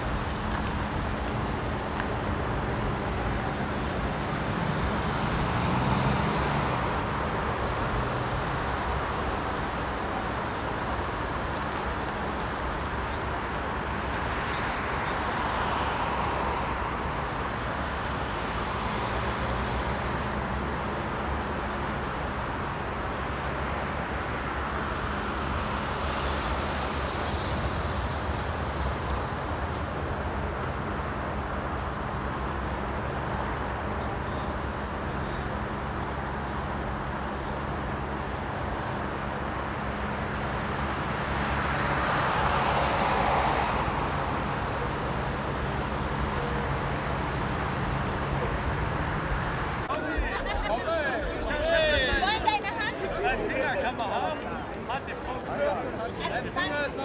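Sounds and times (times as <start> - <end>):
road traffic noise: 0.0 - 57.0
vehicles passing: 0.0 - 57.0.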